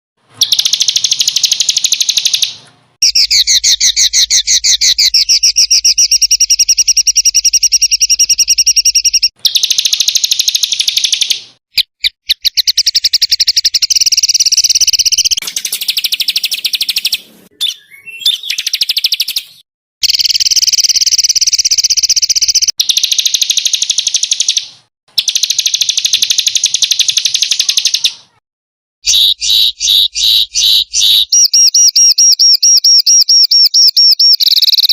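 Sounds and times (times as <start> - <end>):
songbird fast loud trills: 0.4 - 28.4, 29.0 - 34.9.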